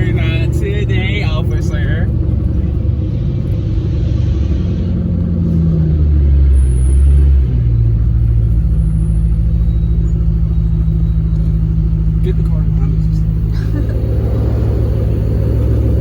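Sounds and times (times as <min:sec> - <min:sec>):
car engine and exhaust droning: 0:00.0 - 0:16.0.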